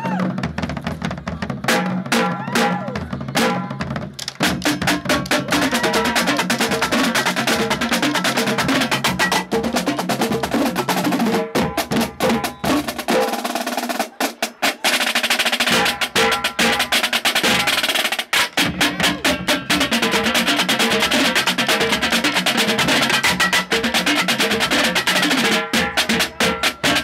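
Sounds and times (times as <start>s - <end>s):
marching drumline playing: 0.0s - 27.0s.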